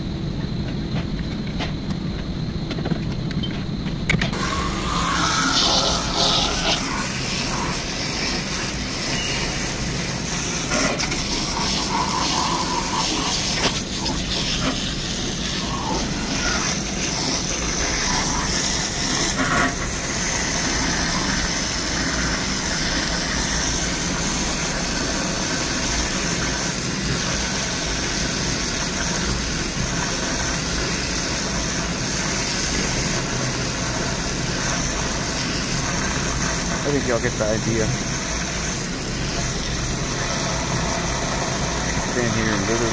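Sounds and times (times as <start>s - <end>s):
hose jet spraying and splashing: 4.4s - 42.9s.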